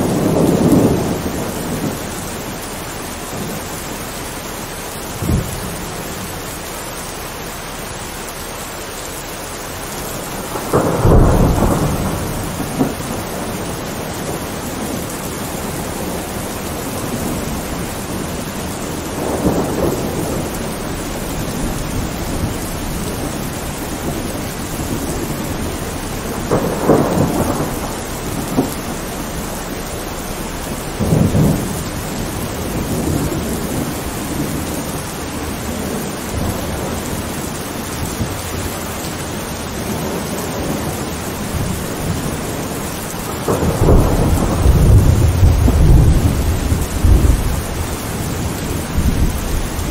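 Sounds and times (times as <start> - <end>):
thunder rolling: 0.0 - 2.6, 10.0 - 49.9
steady rain: 0.0 - 49.9.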